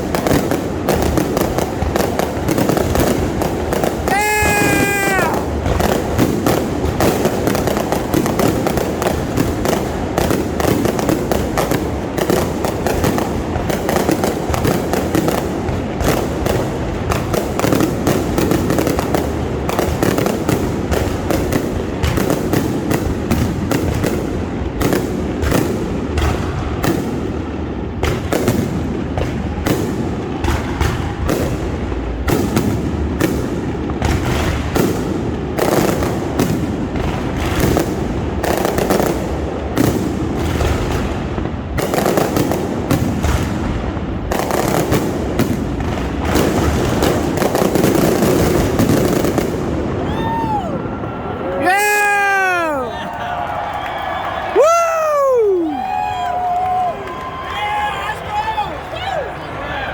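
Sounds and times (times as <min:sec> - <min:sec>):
fireworks bangs and booms: 0:00.0 - 0:57.5.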